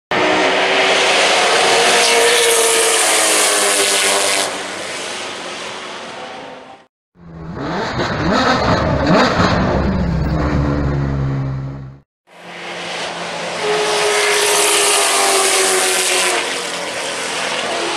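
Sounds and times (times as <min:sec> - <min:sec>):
racing car engine at high revs: 0:00.1 - 0:06.4, 0:07.2 - 0:17.9.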